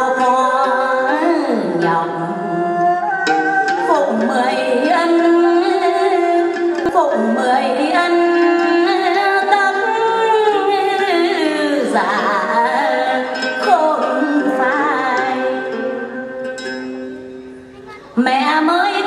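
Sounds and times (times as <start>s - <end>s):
woman singing folk song: 0.0s - 17.2s, 18.2s - 19.0s.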